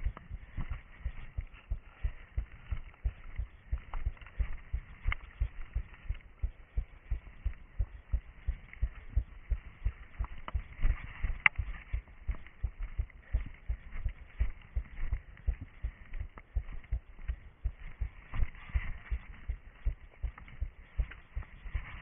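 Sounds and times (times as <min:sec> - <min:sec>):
footsteps on forest ground: 0:00.0 - 0:22.0.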